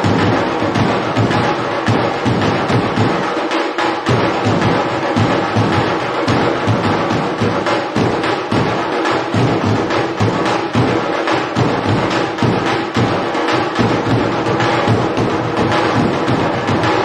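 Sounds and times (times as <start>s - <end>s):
percussion music with drums: 0.0s - 17.0s.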